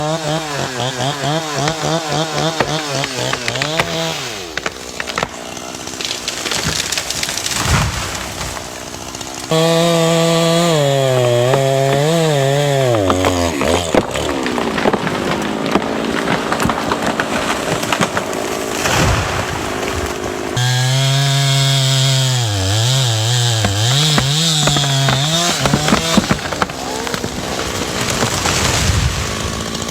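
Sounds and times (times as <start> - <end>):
chainsaw cutting wood: 0.0 - 29.9.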